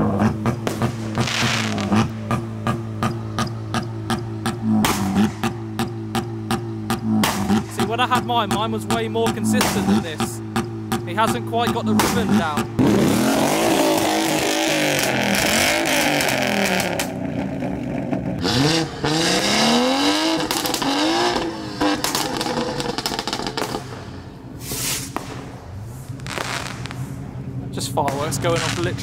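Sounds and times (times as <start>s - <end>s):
car engine revving hard: 0.0s - 25.4s, 27.8s - 29.0s
sharp cracks: 0.1s - 17.2s, 20.3s - 27.4s, 28.0s - 29.0s.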